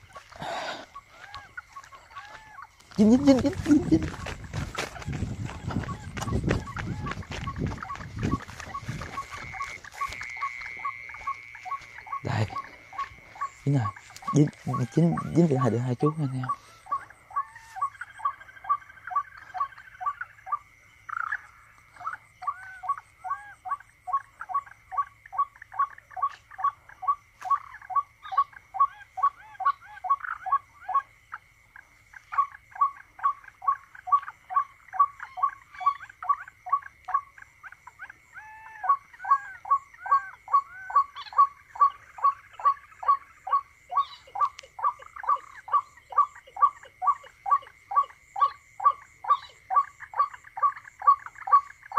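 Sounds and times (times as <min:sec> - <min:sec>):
rapid animal calls: 0:00.0 - 0:51.9.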